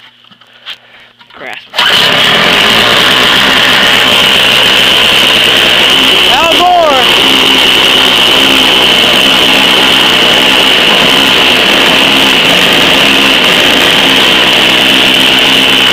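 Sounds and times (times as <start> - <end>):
small engine running: 1.8 - 15.9.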